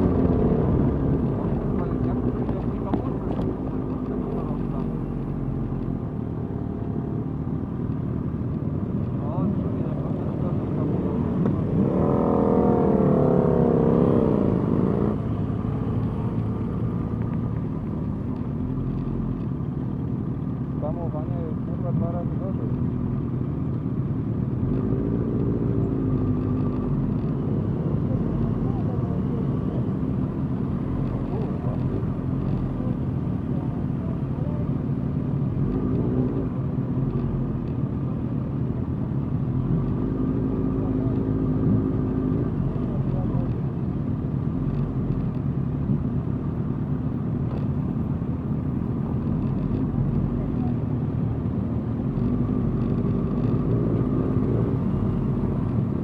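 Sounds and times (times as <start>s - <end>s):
motorcycle engines running: 0.0s - 56.0s
road noise: 0.0s - 56.0s.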